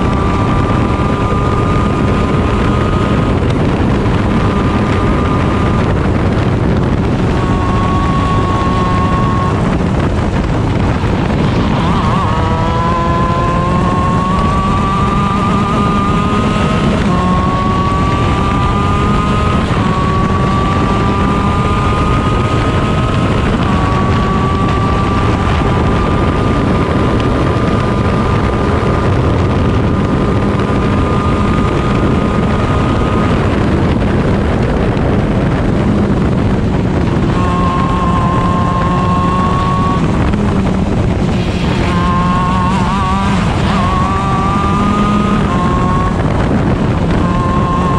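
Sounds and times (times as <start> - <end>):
kart engine accelerating: 0.0 - 47.9
wind buffeting microphone: 0.0 - 47.9.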